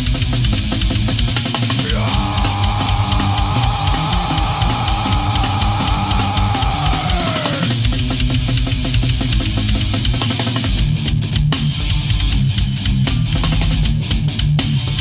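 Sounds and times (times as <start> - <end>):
distorted guitar and bass: 0.0 - 15.0
fast dense drumming: 0.0 - 15.0.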